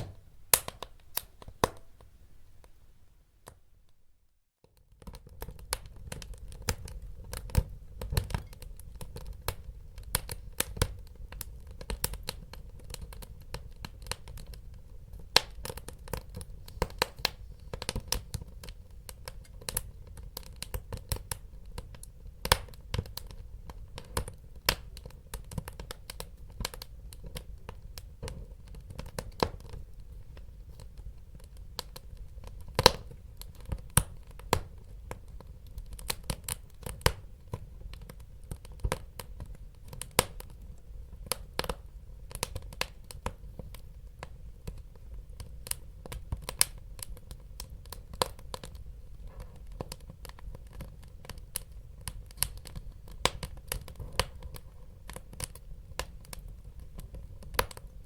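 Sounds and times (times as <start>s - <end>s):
wood fire crackling and popping: 0.0s - 2.8s, 4.6s - 58.0s
low fire rumble: 4.9s - 58.0s.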